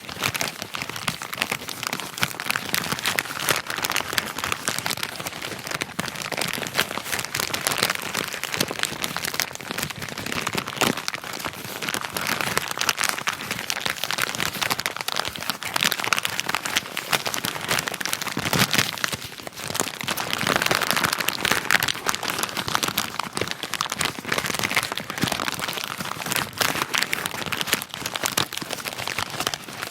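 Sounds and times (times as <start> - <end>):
wrapping paper crinkling: 0.0 - 29.9.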